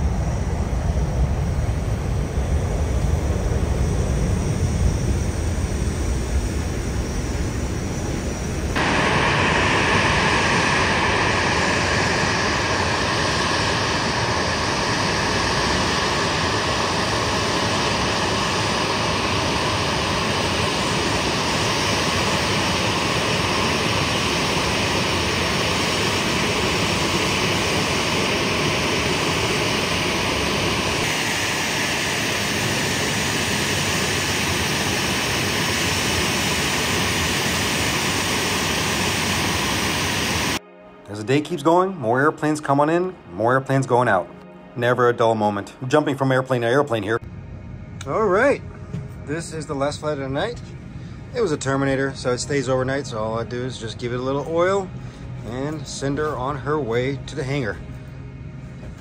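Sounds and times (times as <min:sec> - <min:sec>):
jet engine rushing: 0:00.0 - 0:40.6, 0:45.2 - 0:58.0.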